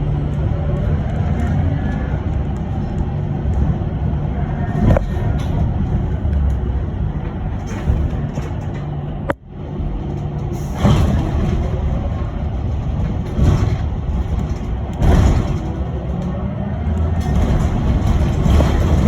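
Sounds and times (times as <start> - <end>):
bus road and tyre rumble: 0.0 - 19.0.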